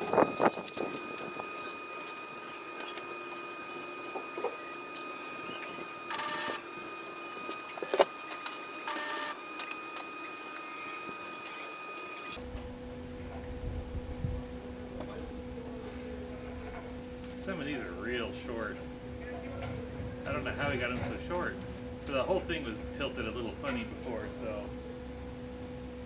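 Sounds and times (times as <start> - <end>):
low steady hum: 0.0 - 26.0
welder high-pitched whine: 0.0 - 26.0.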